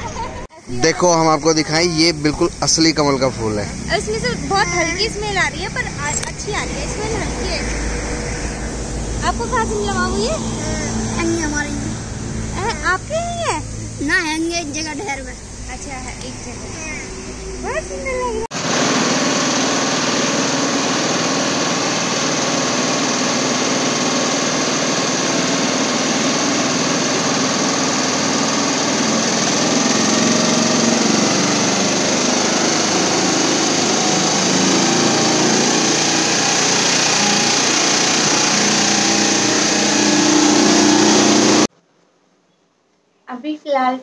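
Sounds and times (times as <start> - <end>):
motorboat engine running: 0.0 - 41.7.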